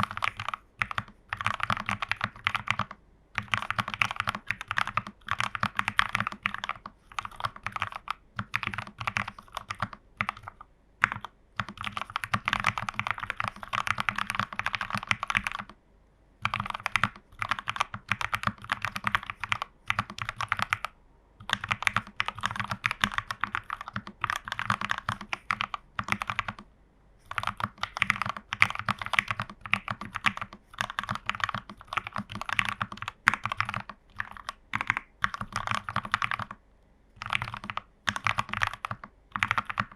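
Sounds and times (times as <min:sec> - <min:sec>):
mechanical keyboard typing: 0:00.0 - 0:15.8, 0:16.4 - 0:36.6, 0:37.2 - 0:39.9.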